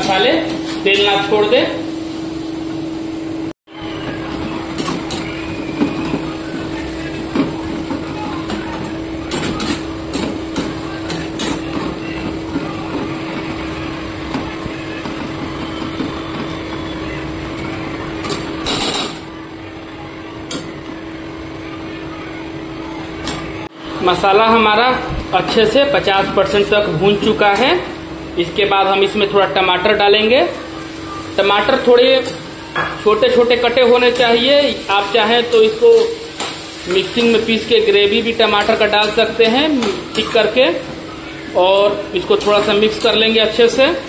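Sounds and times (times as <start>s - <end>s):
onions frying in oil: 0.0s - 44.0s.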